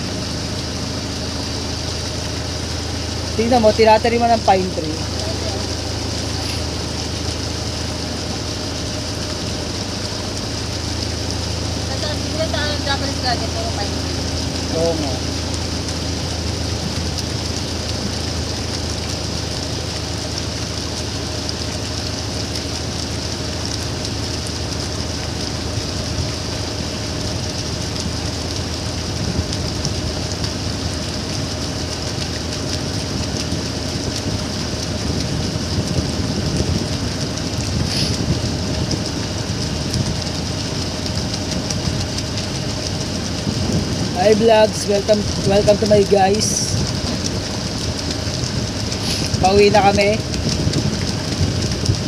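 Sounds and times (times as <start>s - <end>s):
motorboat engine drone: 0.0s - 52.0s.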